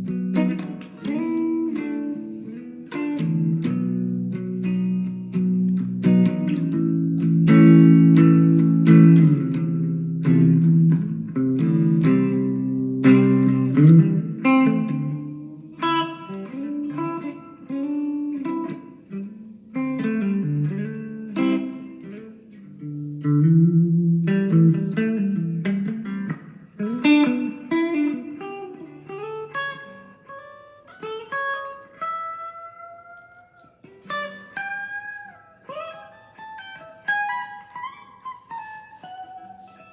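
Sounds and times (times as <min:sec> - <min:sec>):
guitar playing: 0:00.0 - 0:39.9.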